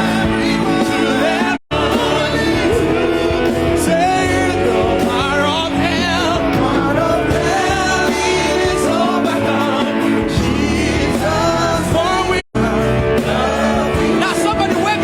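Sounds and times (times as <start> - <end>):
church choir singing gospel: 0.0 - 15.0
live band accompaniment: 0.0 - 15.0.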